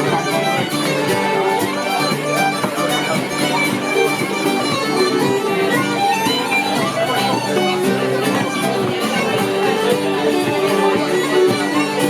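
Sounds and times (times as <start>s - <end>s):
fiddle folk music: 0.0s - 12.0s.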